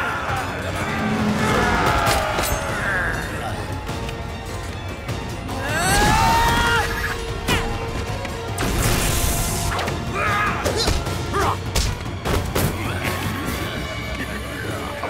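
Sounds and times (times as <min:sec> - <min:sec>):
action music: 0:00.0 - 0:15.0.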